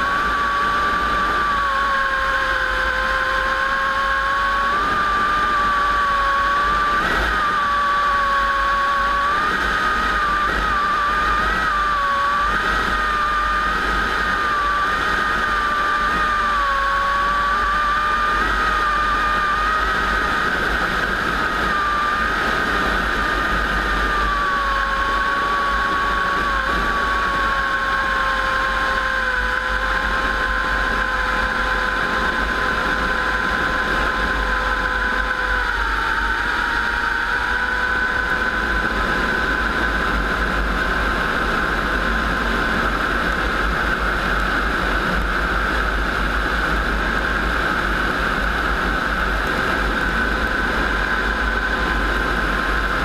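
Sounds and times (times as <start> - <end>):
high-pitched whine: 0.0 - 53.0
piston aircraft engines running: 0.0 - 53.0.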